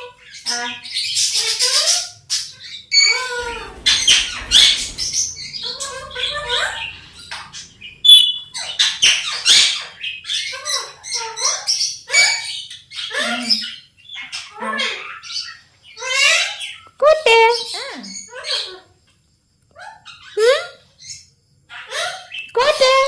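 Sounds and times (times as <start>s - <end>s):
parrot squawking and chirping: 0.0s - 18.9s, 19.8s - 23.0s.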